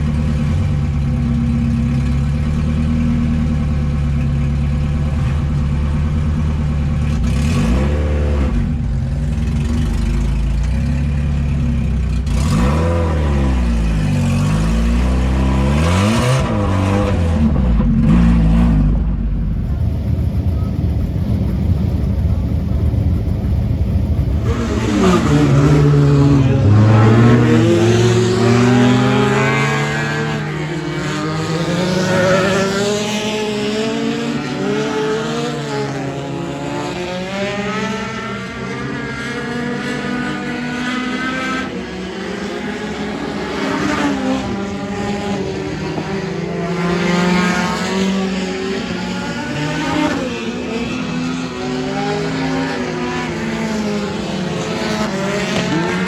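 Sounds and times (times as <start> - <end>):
race car engine revving: 1.8 - 56.0.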